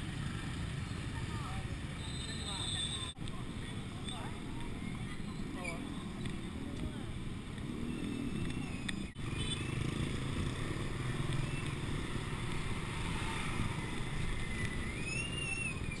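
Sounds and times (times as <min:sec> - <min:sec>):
scooters and minibus passing: 0:00.0 - 0:16.0.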